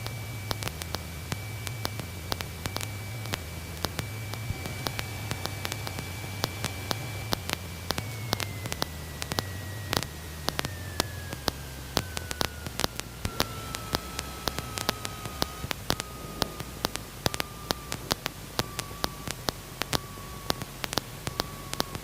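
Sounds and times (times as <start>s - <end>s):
intercom hiss and static: 0.0s - 22.0s
sharp clicks: 0.0s - 22.0s
thin whine sliding down: 0.0s - 22.0s.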